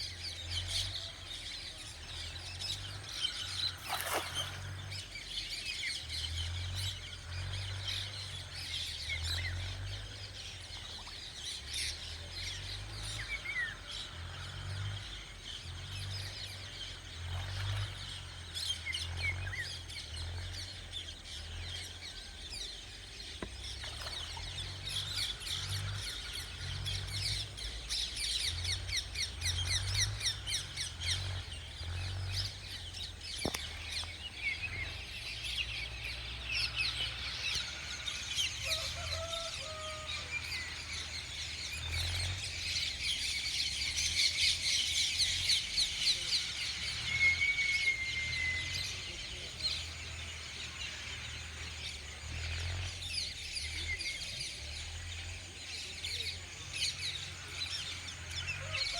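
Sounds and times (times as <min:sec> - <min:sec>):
small birds chirping: 0:00.0 - 0:58.9
low uneven rumble: 0:00.2 - 0:58.9.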